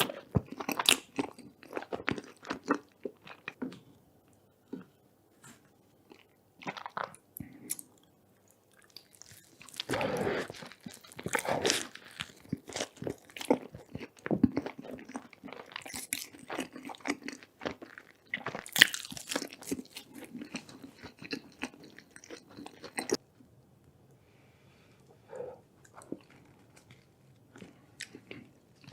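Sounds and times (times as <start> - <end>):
person crunching and chewing food: 0.0 - 3.8, 6.0 - 23.2, 25.3 - 28.9.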